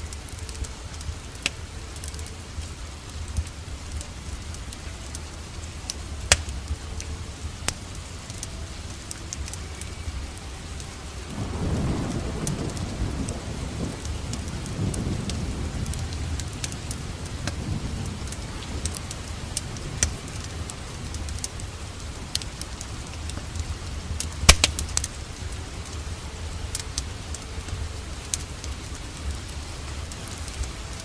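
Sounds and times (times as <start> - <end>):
steady rain: 0.0 - 31.0
thunder rolling: 0.0 - 31.0
wood fire crackling: 0.0 - 31.0.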